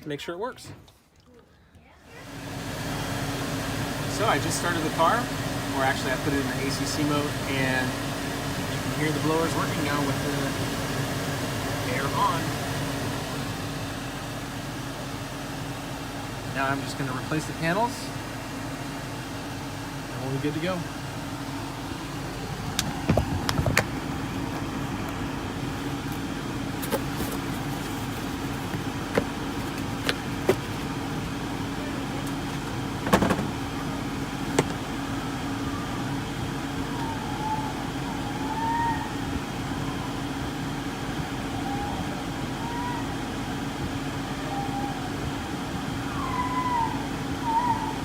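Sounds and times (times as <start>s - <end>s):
blower motor humming: 2.0s - 48.0s.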